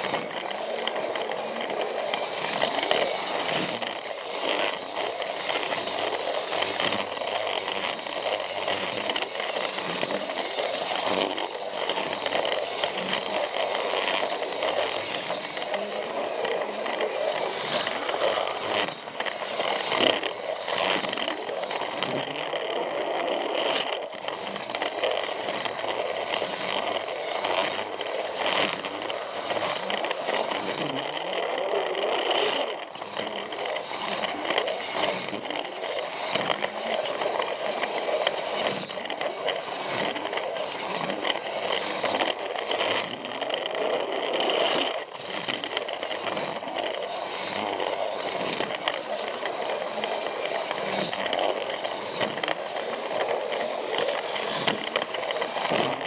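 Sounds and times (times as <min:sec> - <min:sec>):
sharp clicks at track joints: 0:00.0 - 0:56.0
toy train motor whirring: 0:00.0 - 0:56.0
wheels rattling on plastic track: 0:00.0 - 0:56.0.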